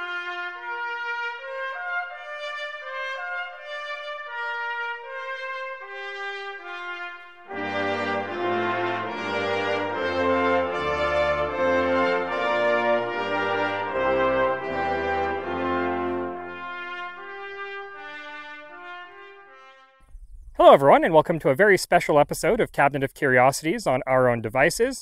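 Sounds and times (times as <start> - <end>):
brass-like theme music: 0.0 - 20.0.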